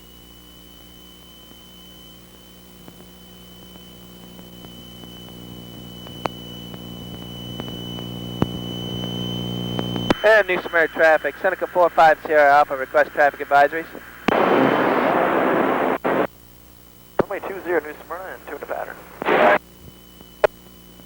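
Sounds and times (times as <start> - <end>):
thin high whine: 1.0 - 16.3, 17.0 - 21.0.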